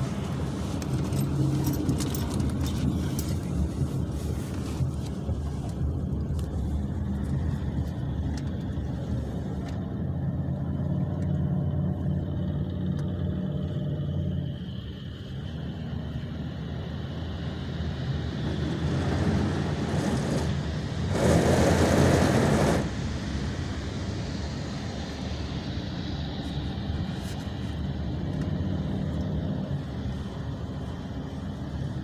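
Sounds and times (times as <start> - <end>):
road rumble inside car: 0.0 - 32.0.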